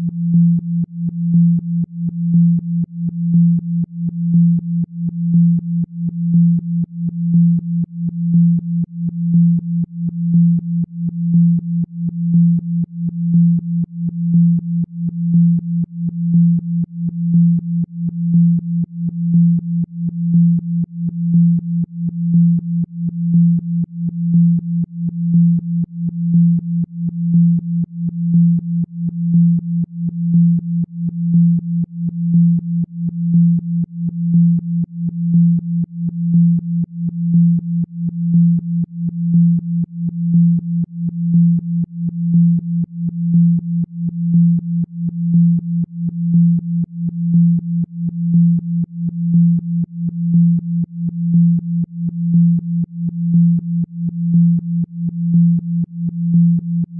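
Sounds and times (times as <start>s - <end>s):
pulsing low pure tone: 0.0s - 56.9s.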